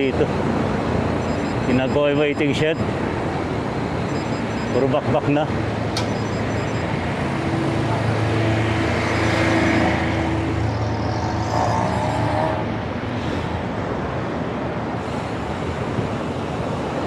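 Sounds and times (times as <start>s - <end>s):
passing cars and buses: 0.0s - 17.0s.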